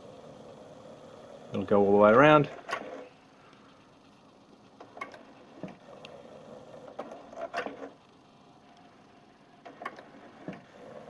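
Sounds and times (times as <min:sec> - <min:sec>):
cd player motor whir: 0:00.0 - 0:11.0.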